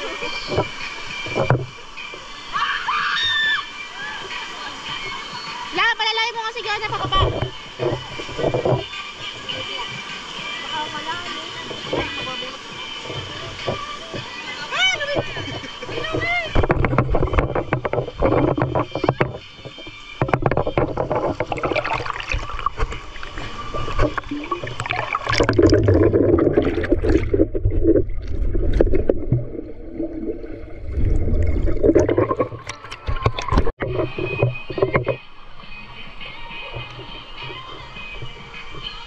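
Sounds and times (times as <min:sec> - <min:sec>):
river water splashing: 0:00.0 - 0:39.0.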